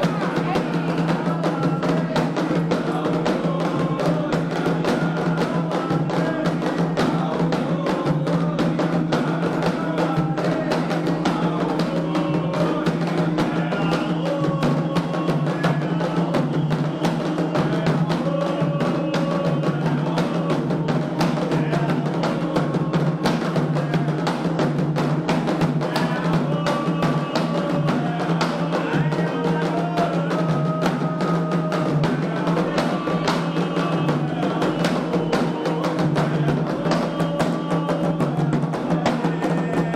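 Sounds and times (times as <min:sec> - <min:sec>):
chanted singing: 0:00.0 - 0:39.9
hand drums beating: 0:00.0 - 0:39.9.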